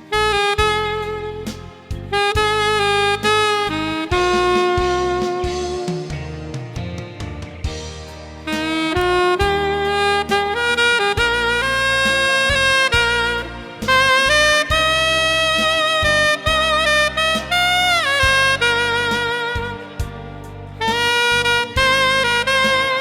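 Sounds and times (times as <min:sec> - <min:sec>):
backing track with bass and drums: 0:00.0 - 0:23.0
saxophone ballad melody: 0:00.0 - 0:23.0.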